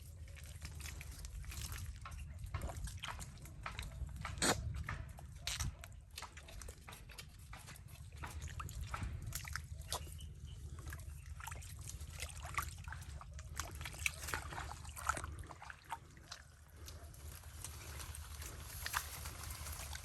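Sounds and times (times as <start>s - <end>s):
irregular clicks and crackles: 0.0s - 15.4s, 16.4s - 20.0s
mud and water sloshing: 0.0s - 20.0s
steady low hum: 0.0s - 20.0s.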